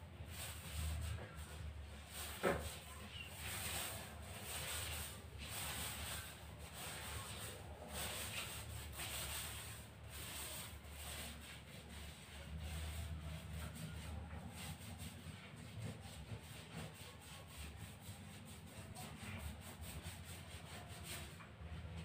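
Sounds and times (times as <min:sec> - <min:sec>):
paint roller rubbing on wall: 0:00.0 - 0:22.0.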